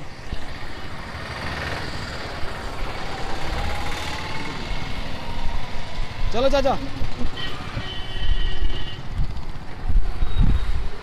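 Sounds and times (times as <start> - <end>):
motorcycle engines: 0.0 - 11.0
road traffic passing: 0.0 - 11.0.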